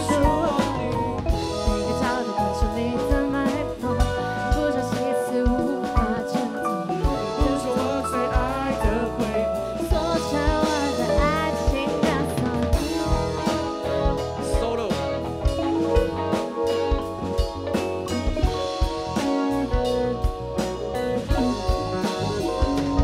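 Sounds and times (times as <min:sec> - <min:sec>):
drum kit beat with snare: 0:00.0 - 0:23.0
electric guitar chords: 0:00.0 - 0:23.0.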